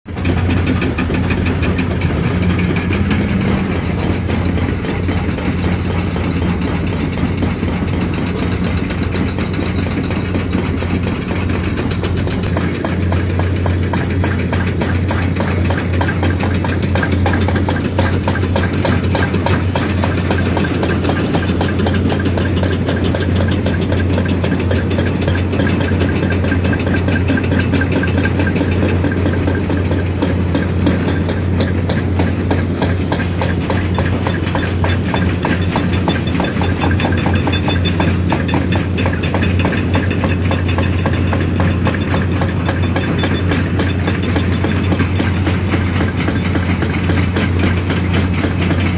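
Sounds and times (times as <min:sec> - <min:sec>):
heavy machinery engine running: 0:00.1 - 0:48.9.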